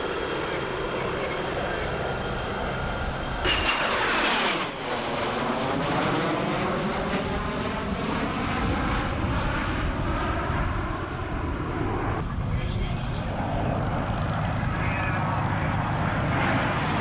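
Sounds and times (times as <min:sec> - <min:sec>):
jet aircraft roaring past: 0:00.0 - 0:17.0.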